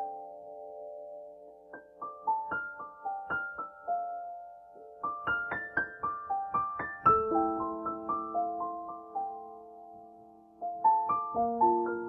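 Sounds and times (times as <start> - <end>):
soft solo piano: 0.0 - 12.0.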